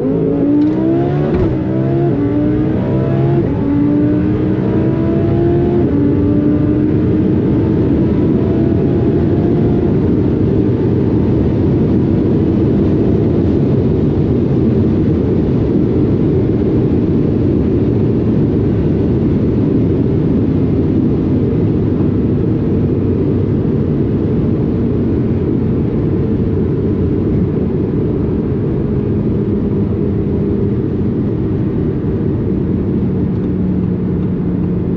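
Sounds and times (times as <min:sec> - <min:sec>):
low car engine drone: 0:00.0 - 0:34.9
wind and tyre noise: 0:00.0 - 0:34.9.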